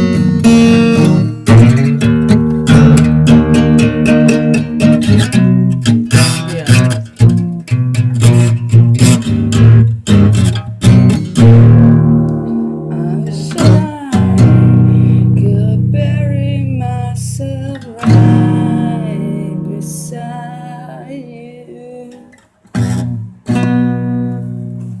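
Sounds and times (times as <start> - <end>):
guitar strumming chords: 0.0 - 25.0.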